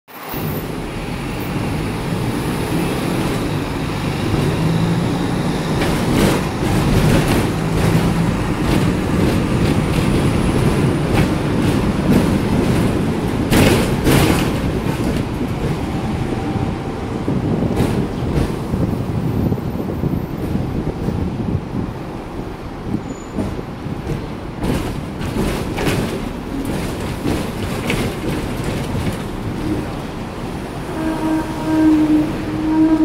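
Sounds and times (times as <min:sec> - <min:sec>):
tram wheels rumbling on rails: 0:00.1 - 0:33.0.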